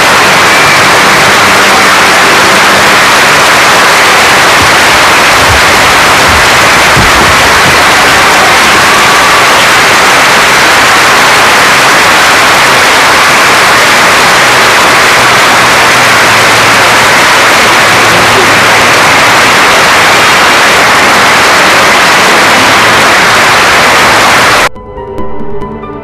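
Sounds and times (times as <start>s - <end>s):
loud steady static hiss: 0.0s - 24.7s.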